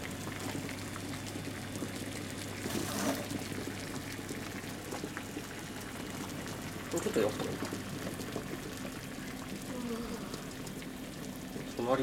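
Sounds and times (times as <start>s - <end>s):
water boiling in saucepan: 0.0s - 12.0s.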